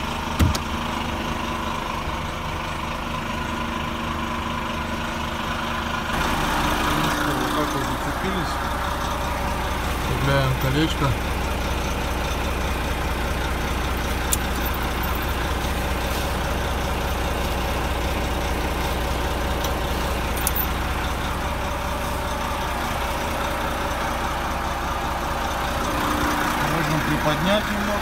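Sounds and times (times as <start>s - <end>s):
truck diesel engine idling: 0.0s - 28.0s.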